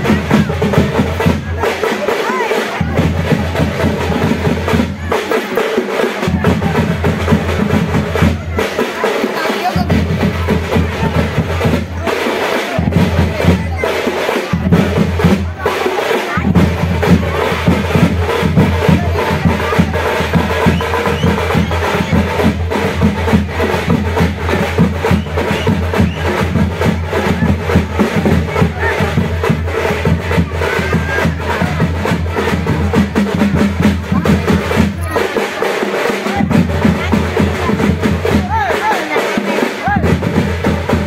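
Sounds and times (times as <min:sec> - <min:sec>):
music with fast loud drumming: 0:00.0 - 0:41.0.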